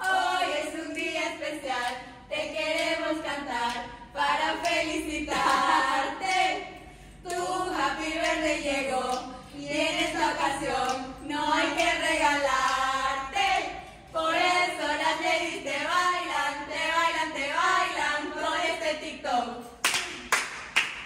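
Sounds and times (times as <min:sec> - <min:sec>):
women singing together: 0:00.0 - 0:19.9.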